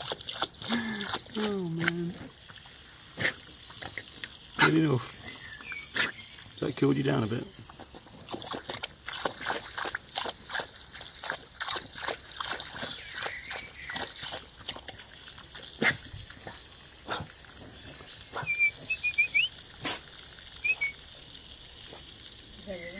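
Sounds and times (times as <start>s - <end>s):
dog lapping water: 0.0s - 6.8s, 7.5s - 22.9s
trickling garden hose: 0.0s - 22.9s.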